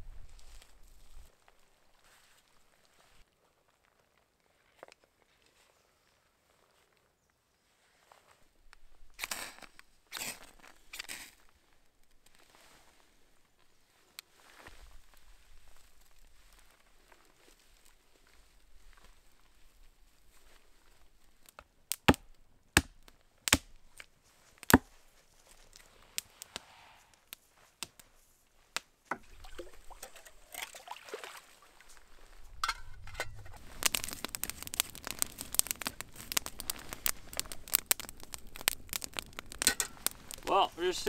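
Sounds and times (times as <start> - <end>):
campfire crackling: 0.0 - 3.2, 8.4 - 41.0.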